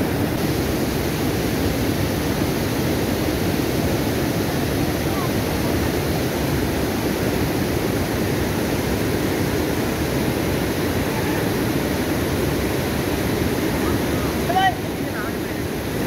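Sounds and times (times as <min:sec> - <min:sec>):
floodwater rushing over stream bed: 0:00.0 - 0:16.0.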